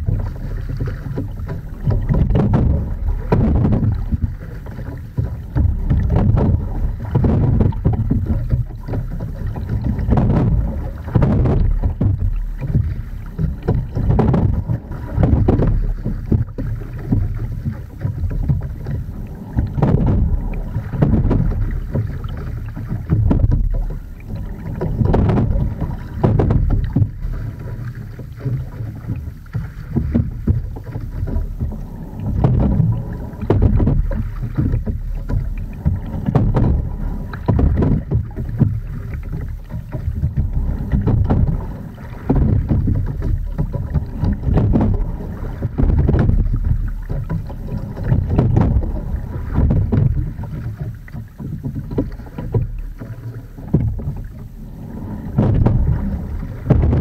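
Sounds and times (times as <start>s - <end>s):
water splashing along hull: 0.0s - 57.0s
wind buffeting microphone: 0.0s - 57.0s.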